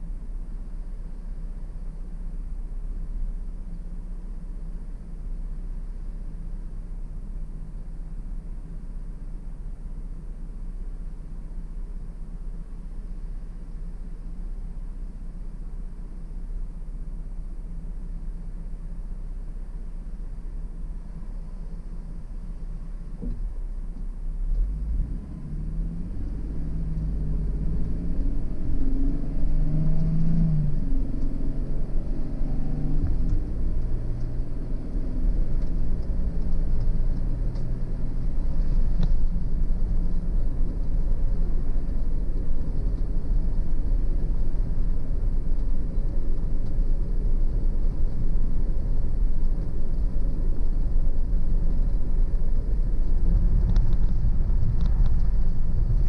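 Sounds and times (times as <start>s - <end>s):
car engine: 0.0s - 56.0s
road rumble: 0.0s - 56.0s.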